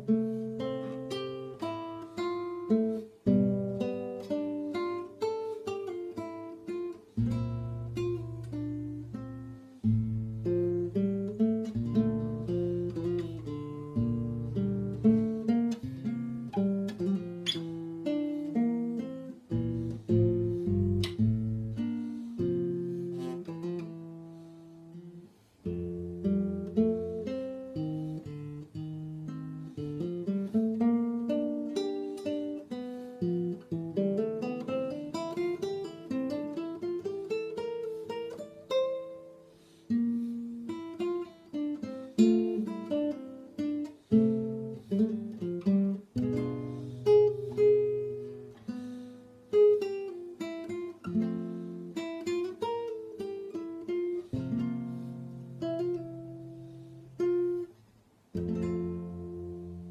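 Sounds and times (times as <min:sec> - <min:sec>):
fingerpicked classical guitar: 0:00.0 - 0:59.9.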